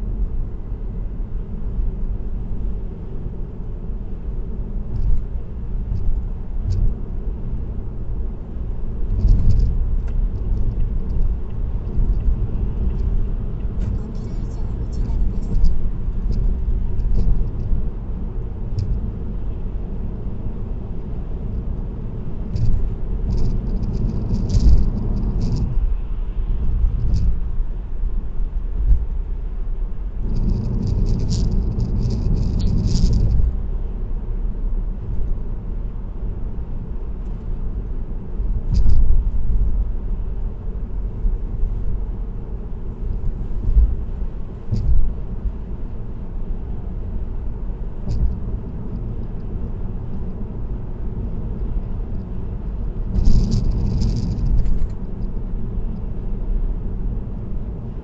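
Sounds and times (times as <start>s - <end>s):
tyre and road noise inside car: 0.0s - 58.0s.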